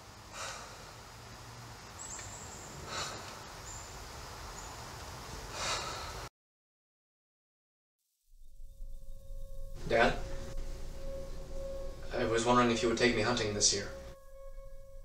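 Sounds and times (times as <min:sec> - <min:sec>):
low steady hiss: 0:00.0 - 0:06.3, 0:08.3 - 0:15.0.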